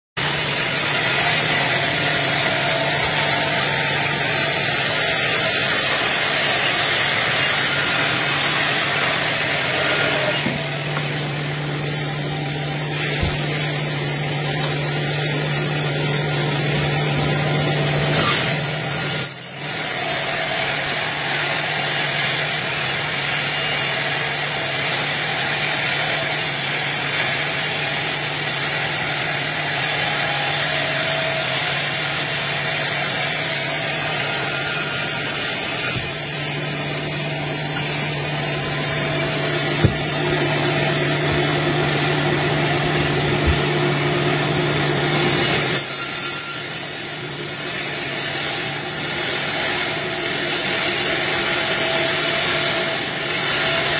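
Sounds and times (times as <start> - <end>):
band saw cutting log: 0.2 - 53.9.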